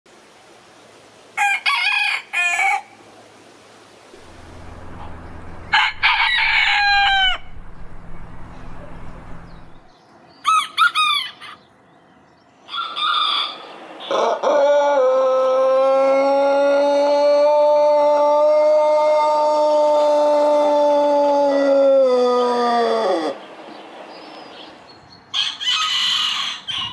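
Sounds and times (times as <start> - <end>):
roosters crowing: 1.4 - 2.9, 4.2 - 11.6, 12.7 - 23.7, 25.3 - 26.9.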